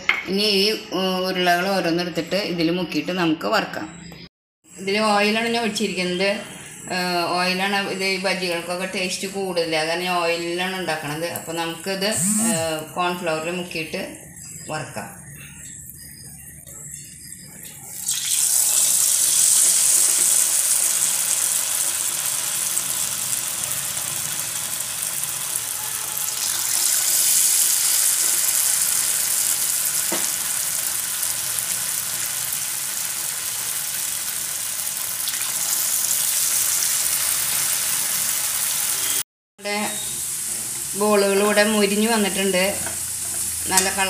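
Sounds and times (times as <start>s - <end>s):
batter sizzling in hot oil: 5.3s - 44.0s.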